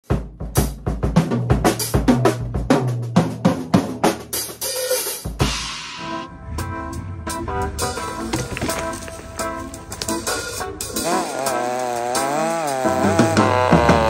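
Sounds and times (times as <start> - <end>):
drum kit playing: 0.0 - 13.9.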